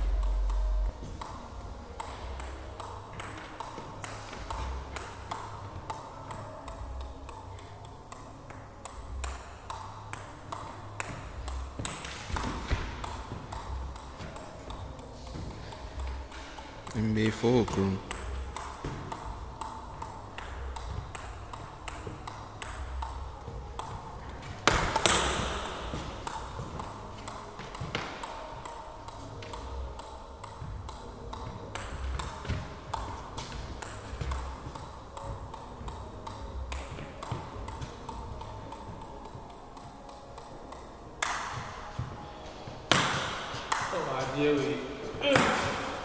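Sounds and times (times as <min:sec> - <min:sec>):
table tennis ball bouncing on bat: 0:01.2 - 0:42.2, 0:42.9 - 0:44.0, 0:45.2 - 0:46.0.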